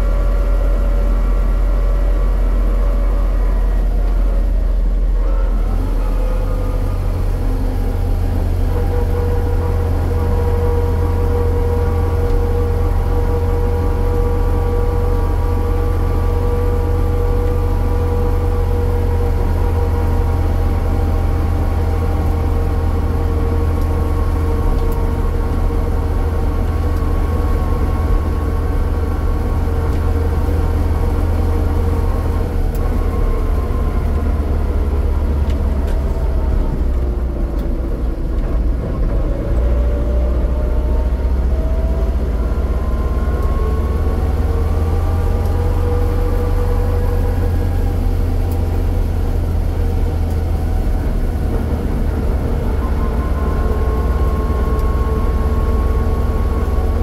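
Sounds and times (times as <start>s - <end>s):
vehicle road and drive noise: 0.0s - 57.0s.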